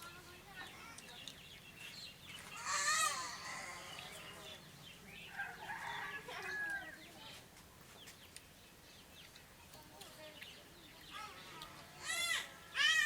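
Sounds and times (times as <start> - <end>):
chickens calling: 1.1 - 9.5, 10.3 - 13.0.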